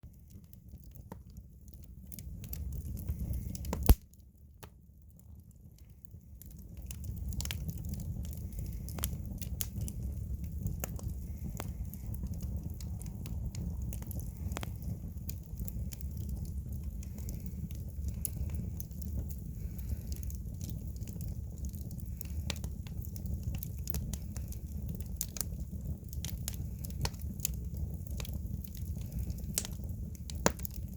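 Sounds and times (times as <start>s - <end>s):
firewood crackling and popping: 0.0s - 30.9s
low fire rumble: 0.0s - 30.9s.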